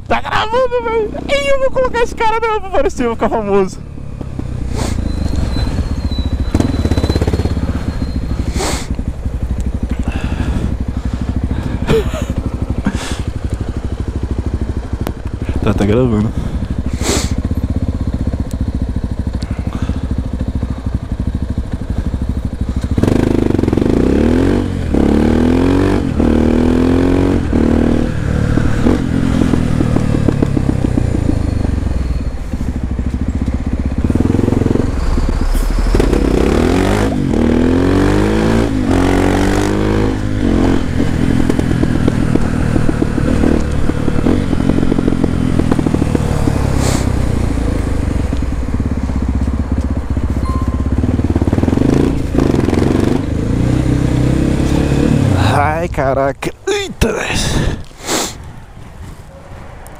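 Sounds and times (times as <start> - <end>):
motorcycle engine accelerating: 0.1 - 56.0.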